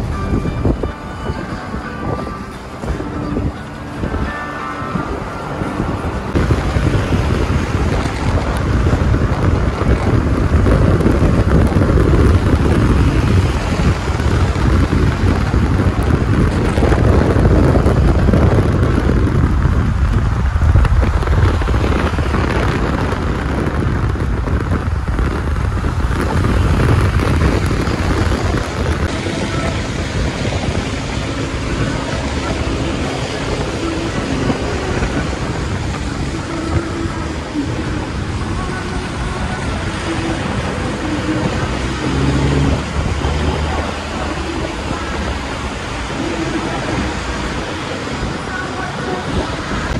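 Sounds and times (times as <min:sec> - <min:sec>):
road and wind noise in moving car: 0:00.0 - 0:49.9.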